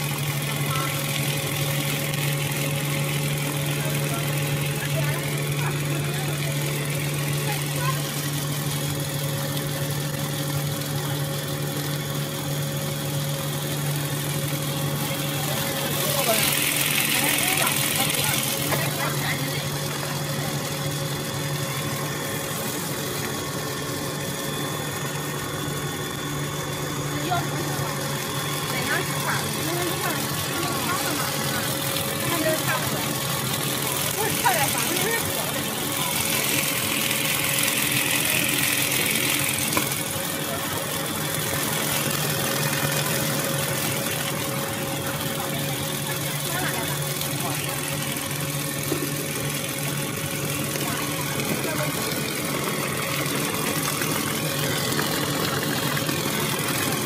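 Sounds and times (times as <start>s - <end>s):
motor hum: 0.0s - 57.0s.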